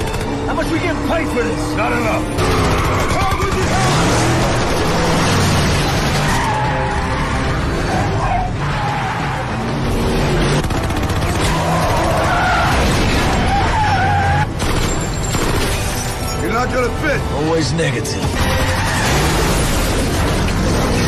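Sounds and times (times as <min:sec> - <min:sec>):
car engine noise: 0:00.0 - 0:21.0
film music score: 0:00.0 - 0:21.0.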